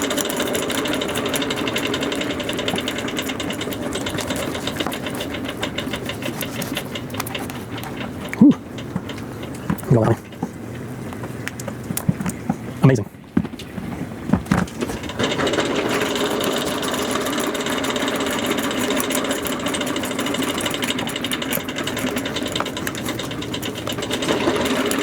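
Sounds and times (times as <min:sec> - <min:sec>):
honey extractor gears rattling: 0:00.0 - 0:11.2, 0:14.5 - 0:25.0.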